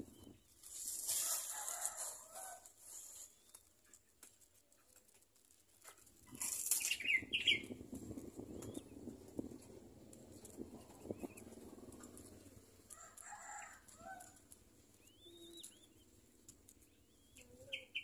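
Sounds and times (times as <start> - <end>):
doves fluttering in plastic bag: 0.0 - 17.4.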